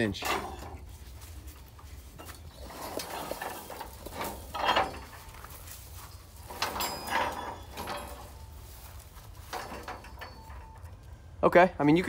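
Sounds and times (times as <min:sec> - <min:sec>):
metal scaffolding squeaking: 0:00.0 - 0:11.2.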